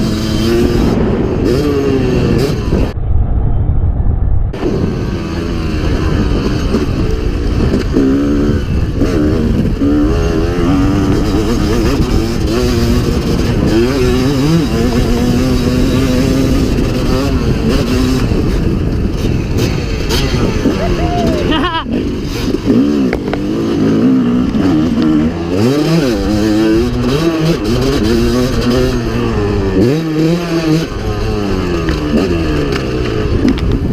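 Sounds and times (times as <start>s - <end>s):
dirt bike engine revving: 0.0s - 3.0s, 4.6s - 33.9s
wind rumble on microphone: 0.0s - 33.9s.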